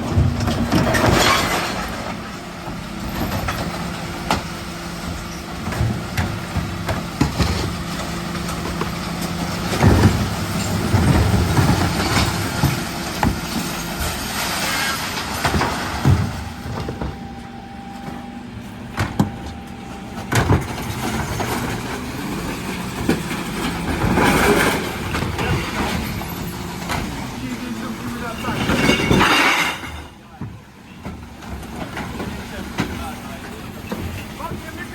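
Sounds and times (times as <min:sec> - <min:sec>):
knocks and clatters: 0:00.0 - 0:17.3, 0:18.9 - 0:34.9
refuse lorry engine hum: 0:00.0 - 0:34.9.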